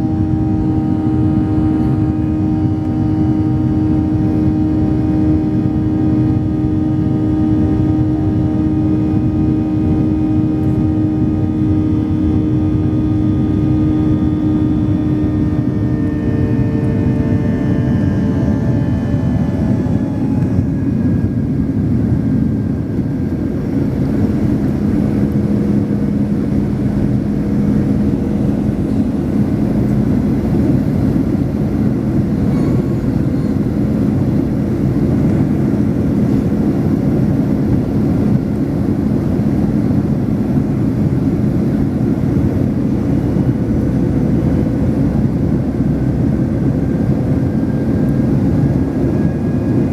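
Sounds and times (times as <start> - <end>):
jet engines heard from cabin: 0.0 - 49.9
steady low hum: 0.0 - 49.9.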